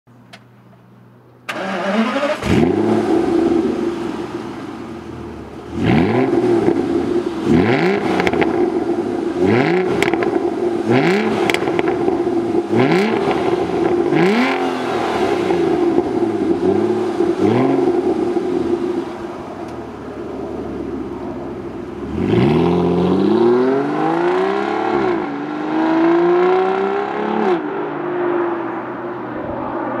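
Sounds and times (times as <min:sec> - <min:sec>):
car engine starting and revving: 0:01.5 - 0:30.0.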